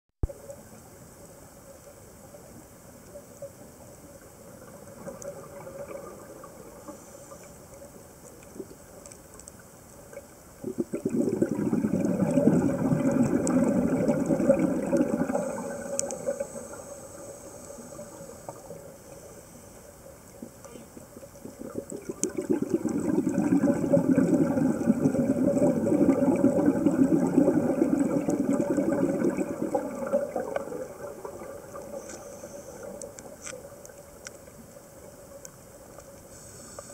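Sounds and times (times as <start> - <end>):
faint steady hum: 0.2 - 36.9
underwater bubbles burbling: 2.4 - 19.3, 20.0 - 36.1.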